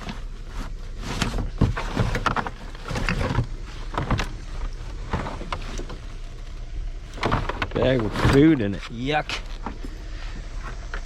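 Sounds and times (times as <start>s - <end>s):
rummaging through junk clatter: 0.0s - 11.0s.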